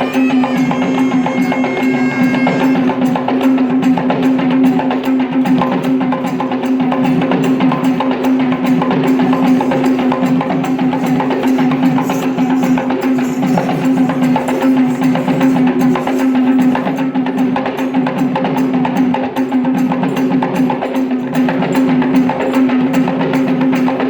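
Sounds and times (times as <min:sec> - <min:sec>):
fast drumming: 0:00.0 - 0:24.0.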